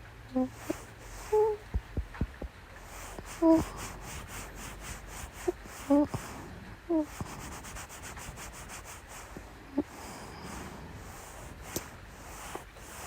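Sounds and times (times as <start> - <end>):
person humming softly: 0.3 - 13.0
fabric rubbing on microphone: 0.5 - 13.0.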